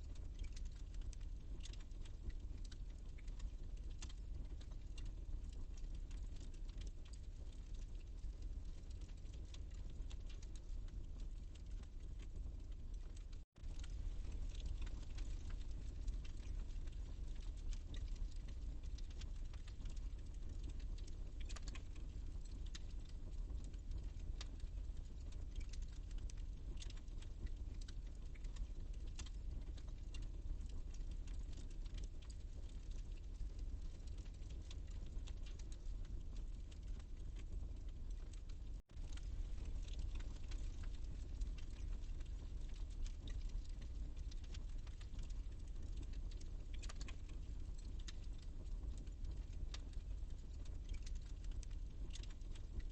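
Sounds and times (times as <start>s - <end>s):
flames rumbling in fireplace: 0.0s - 52.9s
wood fire crackling and popping: 0.0s - 52.9s.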